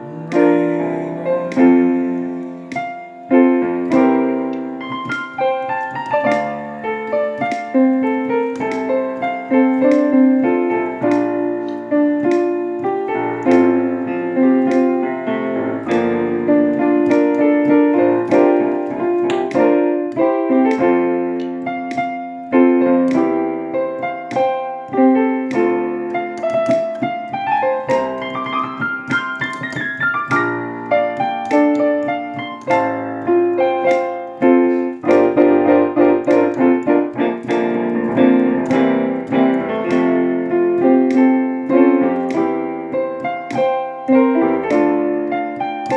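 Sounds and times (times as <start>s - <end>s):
keyboard piano chords: 0.0s - 45.9s.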